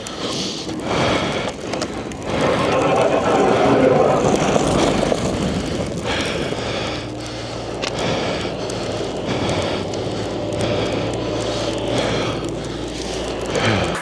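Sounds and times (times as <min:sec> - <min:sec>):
crunching sounds: 0:00.0 - 0:14.0
wind buffeting microphone: 0:00.0 - 0:14.0.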